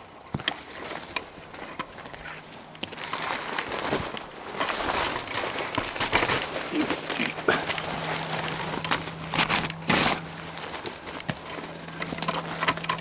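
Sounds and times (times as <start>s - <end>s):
footsteps on gravel: 0.3s - 13.0s.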